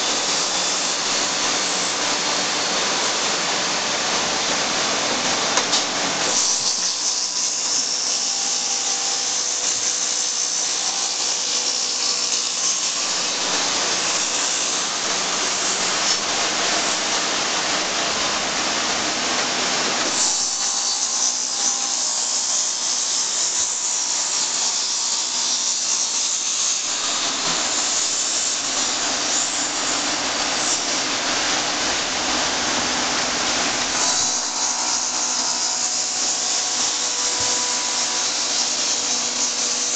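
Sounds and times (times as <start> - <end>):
lathe cutting wood: 0.0 - 39.9.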